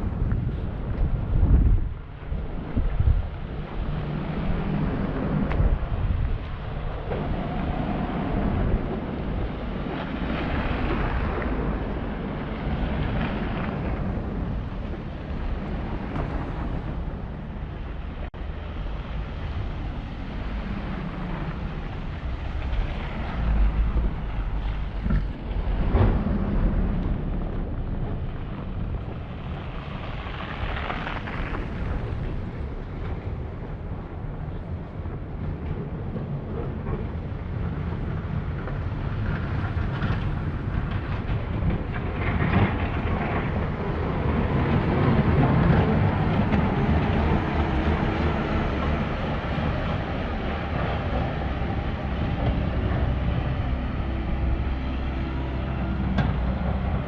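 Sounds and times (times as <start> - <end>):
city street noise: 0.0 - 57.0
vehicles passing: 0.0 - 57.0
wind buffeting microphone: 0.0 - 57.0.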